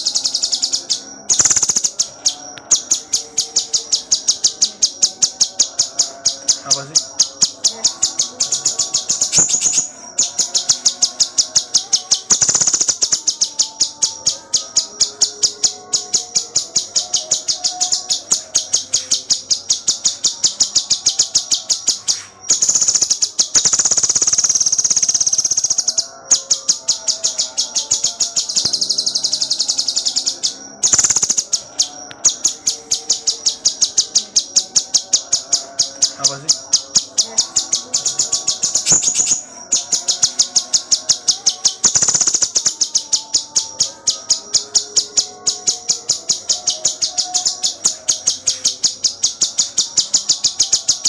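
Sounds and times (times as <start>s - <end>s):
songbird singing rapid high notes: 0.0s - 51.0s.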